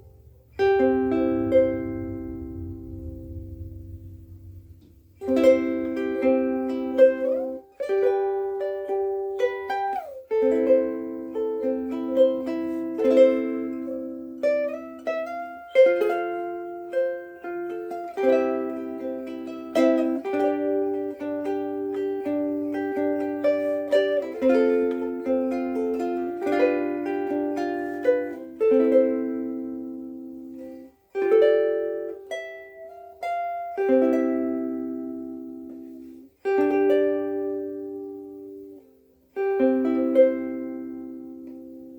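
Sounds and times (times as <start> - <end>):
ukulele chord melody: 0.0 - 41.9.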